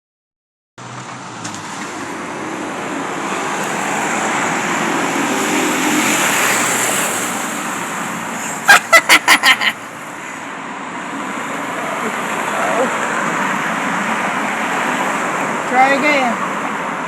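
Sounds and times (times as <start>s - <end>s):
vehicle passing on road: 0.8s - 17.0s.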